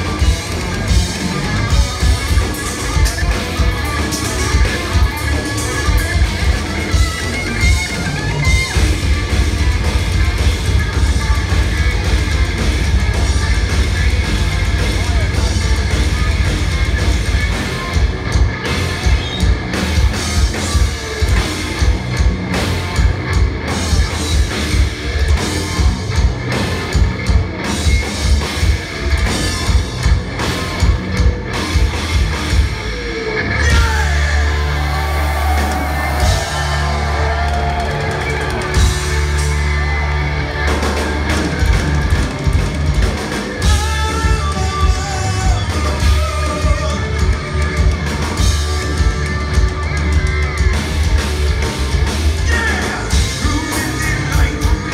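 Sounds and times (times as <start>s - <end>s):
held low bass notes: 0.0s - 52.5s
metal band playing live: 0.0s - 54.9s
rapid double bass drum: 0.0s - 54.9s
sliding guitar and keyboard lines: 0.0s - 54.9s.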